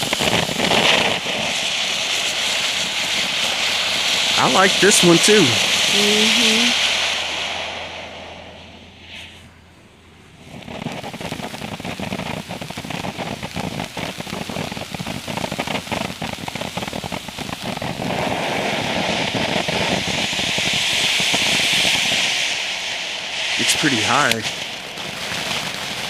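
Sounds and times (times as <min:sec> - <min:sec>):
firework fountain crackling: 0:00.0 - 0:26.0.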